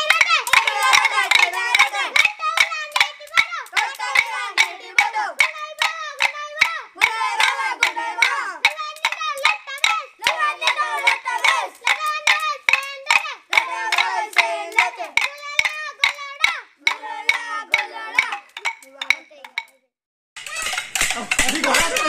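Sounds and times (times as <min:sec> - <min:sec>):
boys singing in chorus: 0:00.0 - 0:19.6
wooden sticks clacking: 0:00.0 - 0:19.8, 0:20.4 - 0:22.0.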